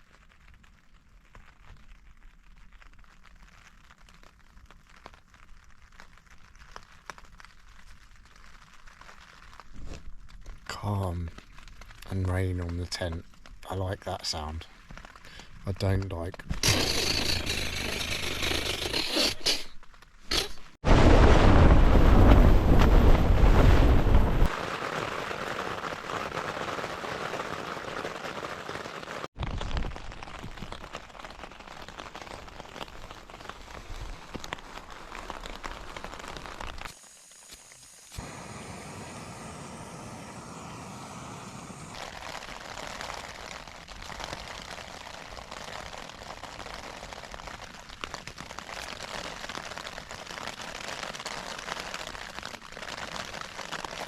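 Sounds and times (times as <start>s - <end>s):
rain pattering on tent: 0.0s - 54.0s.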